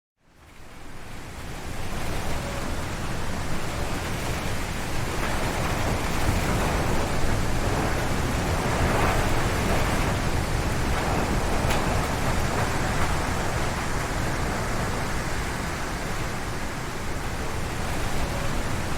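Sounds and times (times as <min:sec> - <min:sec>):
strong wind gusting through trees: 0:00.4 - 0:18.9.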